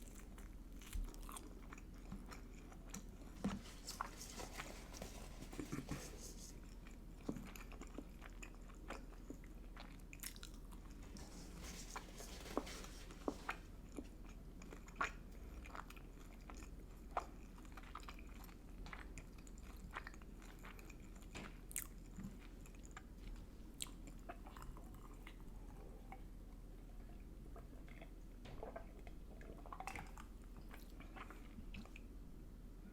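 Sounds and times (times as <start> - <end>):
person chewing food: 0.0 - 32.2.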